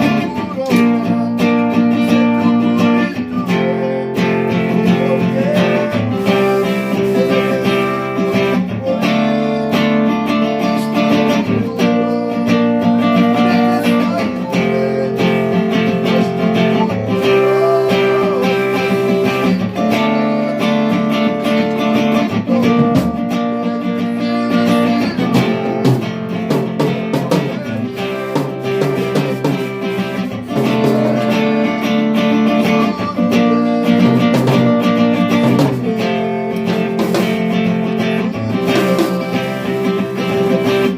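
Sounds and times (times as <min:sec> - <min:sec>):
guitar strumming chords: 0:00.0 - 0:40.9.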